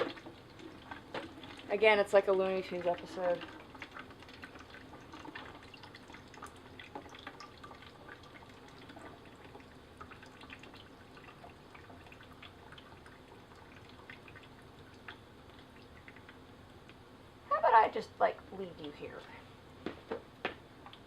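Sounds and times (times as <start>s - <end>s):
faint water drips: 0.0s - 19.8s, 20.8s - 21.0s.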